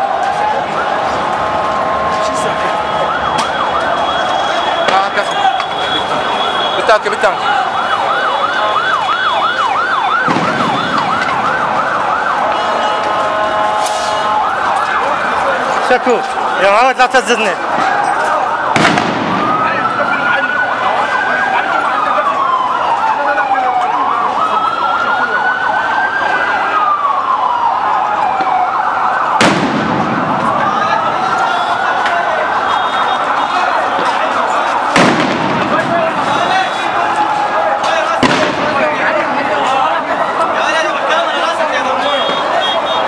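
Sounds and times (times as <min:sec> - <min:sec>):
crowd noise: 0:00.0 - 0:43.0
emergency siren yelping: 0:00.0 - 0:43.0.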